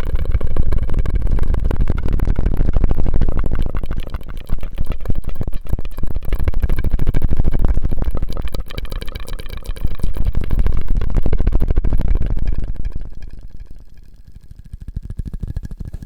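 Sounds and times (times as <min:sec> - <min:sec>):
mouth clicks: 0:00.0 - 0:14.3.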